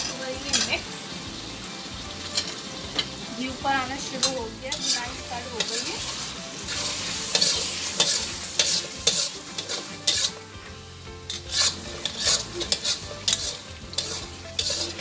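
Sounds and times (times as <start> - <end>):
metal spatula scraping wok: 0.0 - 0.9, 1.7 - 15.0
hot fat sizzling: 0.0 - 15.0.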